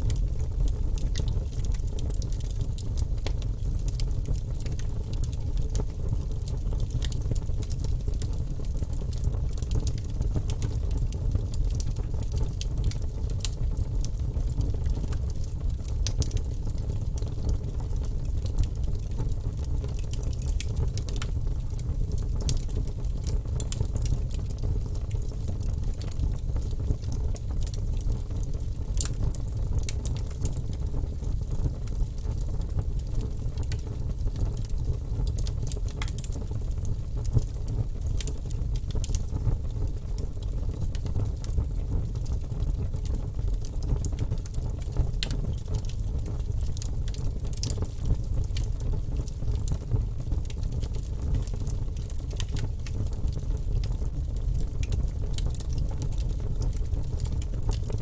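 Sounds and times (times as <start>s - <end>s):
fire crackling and popping: 0.0s - 58.0s
fire rumbling in fireplace: 0.0s - 58.0s.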